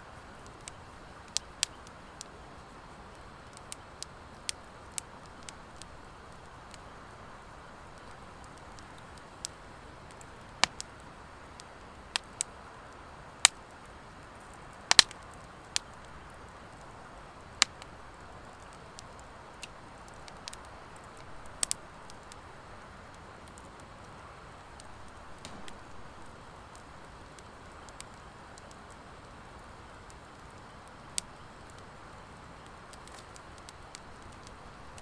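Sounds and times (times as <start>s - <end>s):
low steady hiss of fire: 0.0s - 35.0s
wood fire crackling and popping: 0.0s - 35.0s.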